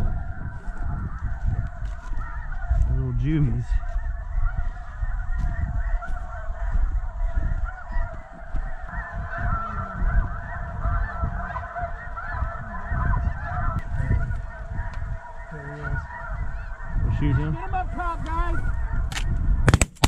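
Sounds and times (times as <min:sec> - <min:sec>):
geese honking and yelping: 0:00.0 - 0:19.7.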